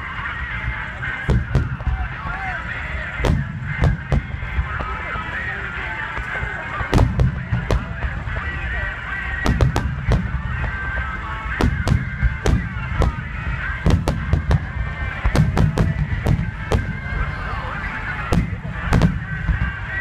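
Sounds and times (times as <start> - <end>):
fireworks bangs: 0.0 - 20.0
low rumble: 0.0 - 20.0.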